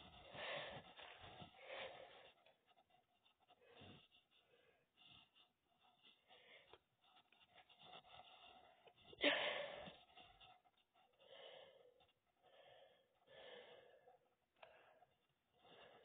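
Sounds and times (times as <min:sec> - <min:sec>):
soft breathing: 0:00.0 - 0:16.0.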